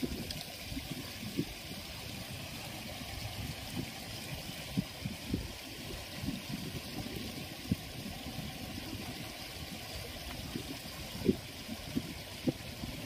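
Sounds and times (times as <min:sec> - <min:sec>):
flowing water: 0:00.0 - 0:13.0
wind hiss: 0:00.0 - 0:13.0.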